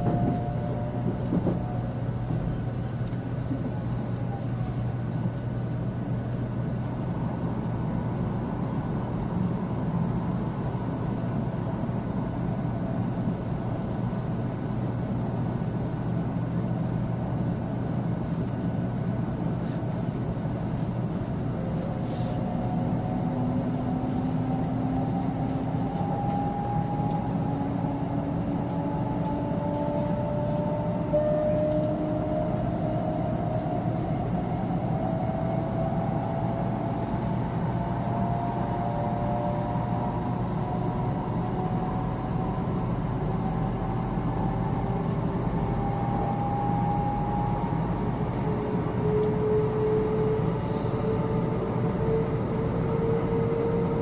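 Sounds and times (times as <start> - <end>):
train running rumble and hum: 0.0 - 54.0.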